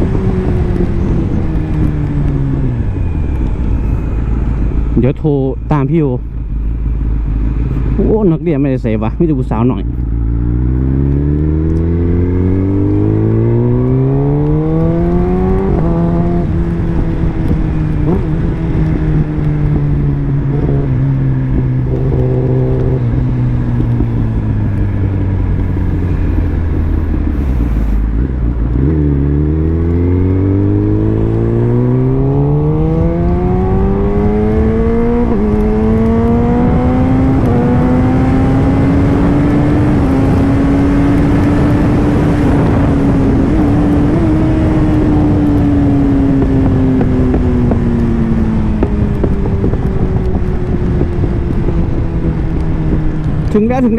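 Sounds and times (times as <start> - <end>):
gear change: 0.0 - 53.9
motorcycle engine revving: 6.3 - 53.9.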